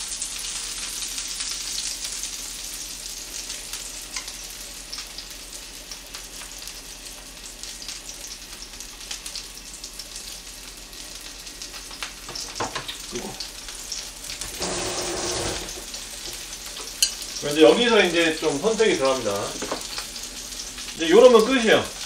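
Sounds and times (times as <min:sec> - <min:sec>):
fritters sizzling in oil: 0:00.0 - 0:22.0.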